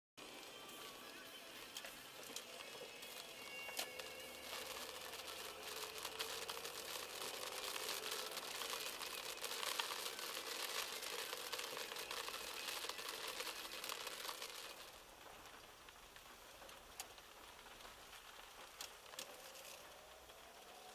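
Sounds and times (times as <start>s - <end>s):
dense crackling and clicking: 0.2s - 20.9s.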